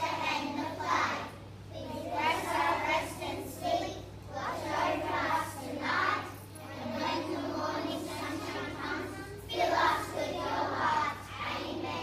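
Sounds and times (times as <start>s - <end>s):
children singing or chanting: 0.0s - 12.0s.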